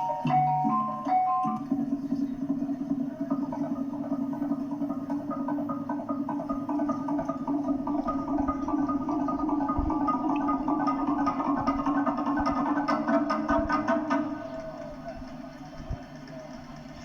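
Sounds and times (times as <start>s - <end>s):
fast bright plucked notes: 0.0s - 17.0s.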